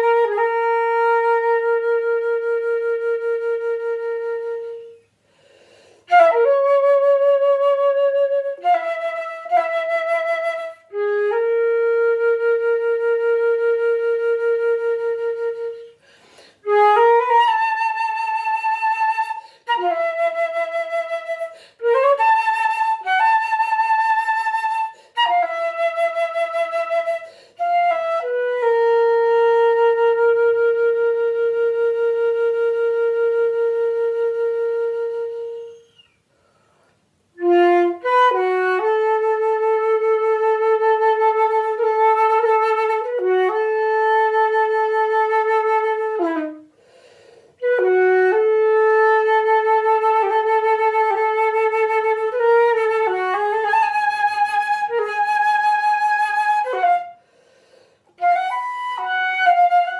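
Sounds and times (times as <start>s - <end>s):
solo flute playing: 0.0s - 59.9s.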